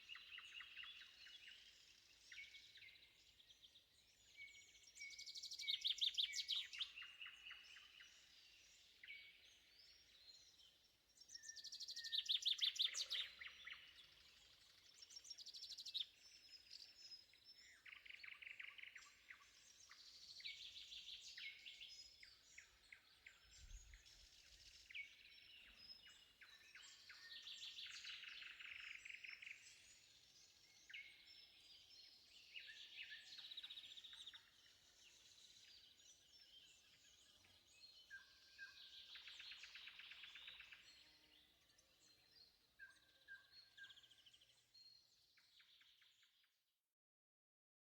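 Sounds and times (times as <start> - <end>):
songbirds trilling and chirping: 0.0 - 46.4.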